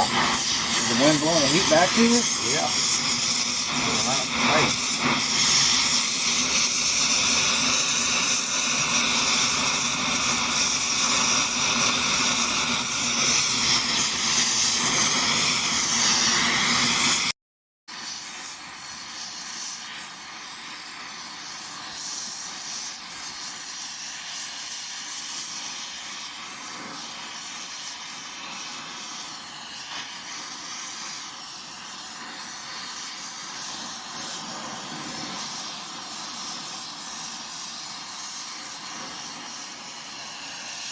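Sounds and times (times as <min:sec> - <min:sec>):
blow torch flame hissing: 0:00.0 - 0:40.9.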